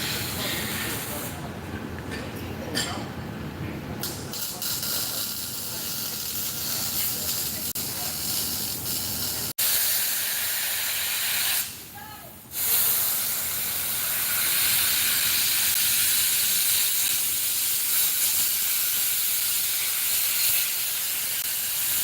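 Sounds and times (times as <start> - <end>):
welding arc hissing: 0.0 - 1.4, 4.0 - 22.0.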